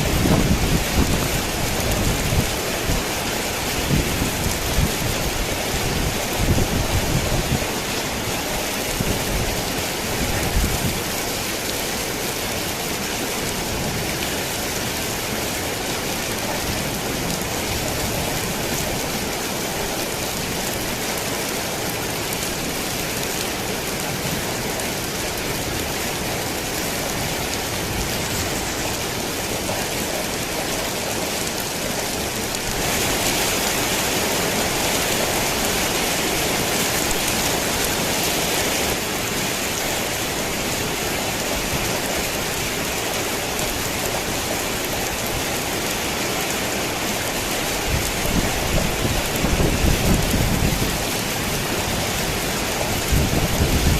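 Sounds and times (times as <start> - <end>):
heavy rain on a tin roof: 0.0 - 53.9.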